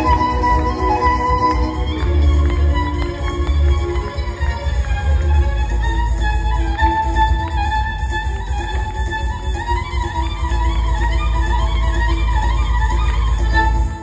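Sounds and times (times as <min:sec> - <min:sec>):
bass accompaniment: 0:00.0 - 0:14.0
violin folk melody: 0:00.0 - 0:14.0.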